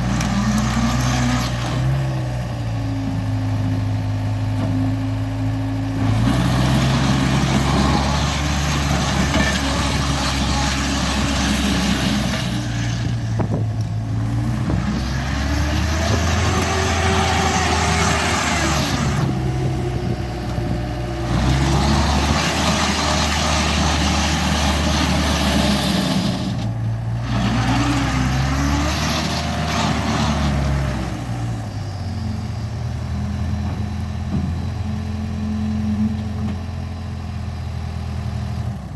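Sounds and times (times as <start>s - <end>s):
diesel engine running hard: 0.0s - 38.9s.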